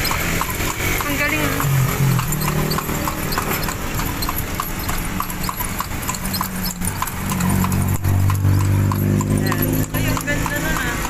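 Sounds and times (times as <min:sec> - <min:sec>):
horse hooves clip-clopping on asphalt: 0:00.0 - 0:11.0.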